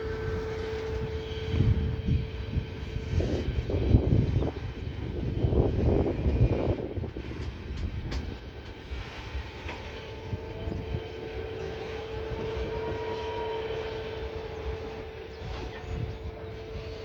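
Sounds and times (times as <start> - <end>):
steady whine: 0.0 - 17.0
train rumble: 0.0 - 17.0.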